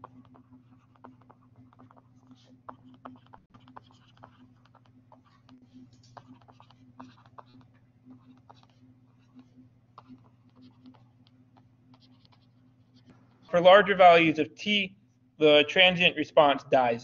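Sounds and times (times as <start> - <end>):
stylus tapping and scratching on screen: 0.0 - 14.4
steady low hum: 0.0 - 17.0.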